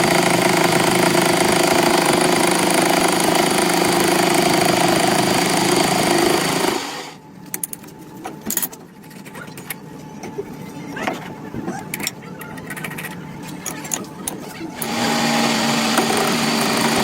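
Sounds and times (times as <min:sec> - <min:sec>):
metalworking machine humming: 0:00.0 - 0:17.0.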